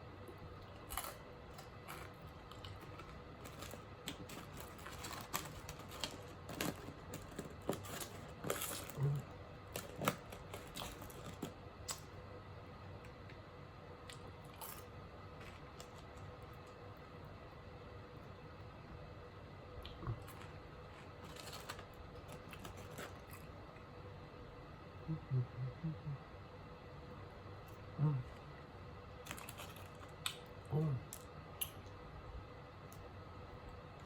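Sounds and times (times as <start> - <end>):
chewing french fries: 0.0 - 12.3, 12.9 - 17.5, 19.7 - 23.9, 27.4 - 34.0.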